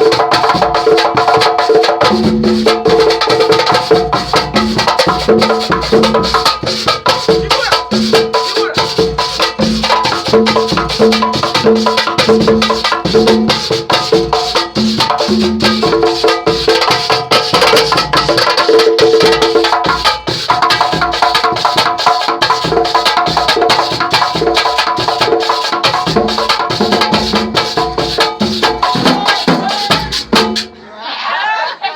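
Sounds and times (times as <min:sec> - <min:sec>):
percussion group drumming: 0:00.0 - 0:30.9.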